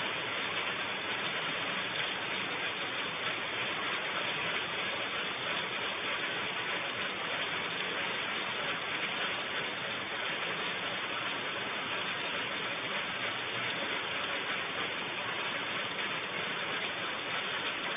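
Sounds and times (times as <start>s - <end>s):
heavy rain hissing: 0.0s - 17.9s.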